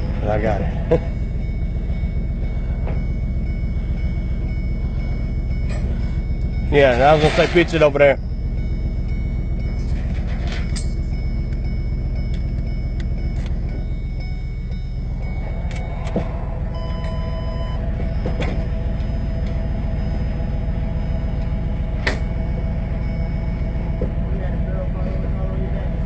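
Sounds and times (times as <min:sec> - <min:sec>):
truck engine rumbling: 0:00.0 - 0:26.0.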